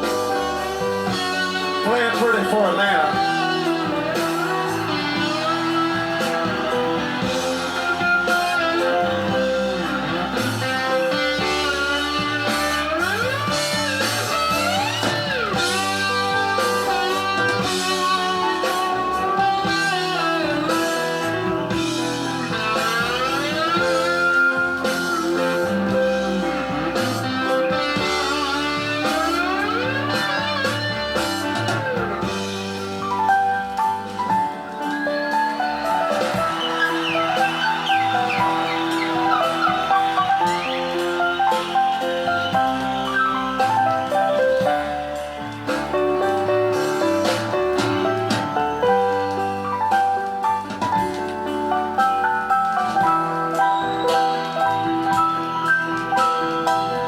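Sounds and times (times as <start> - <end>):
bass and drums: 0.0 - 57.0
electric slide guitar melody: 0.0 - 57.0
keyboard chords: 0.0 - 57.0
rock band backing: 0.0 - 57.0.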